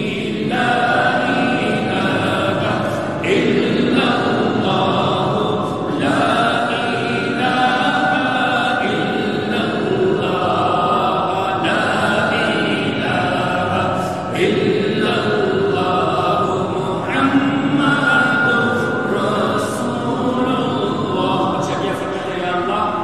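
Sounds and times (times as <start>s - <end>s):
person chanting melodically: 0.0s - 23.0s.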